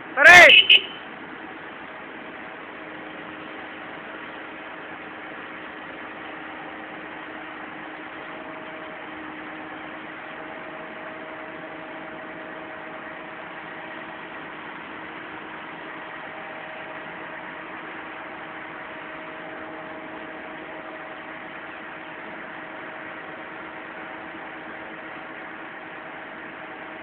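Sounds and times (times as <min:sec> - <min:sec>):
crane engine idling: 0:00.0 - 0:27.0.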